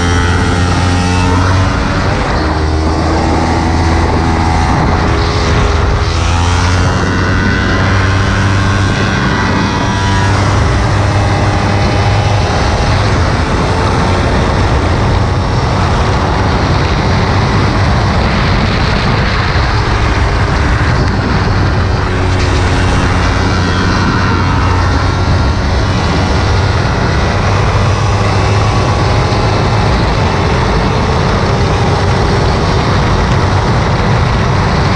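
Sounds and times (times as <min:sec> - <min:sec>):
motorcycle engine at speed: 0:00.0 - 0:34.9
wind rush on microphone: 0:00.0 - 0:34.9.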